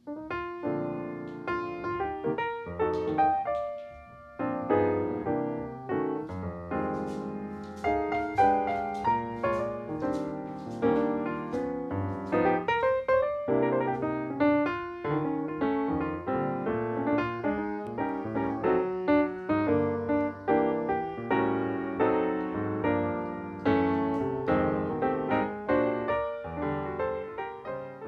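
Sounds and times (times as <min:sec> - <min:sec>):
lively piano music: 0:00.0 - 0:28.0.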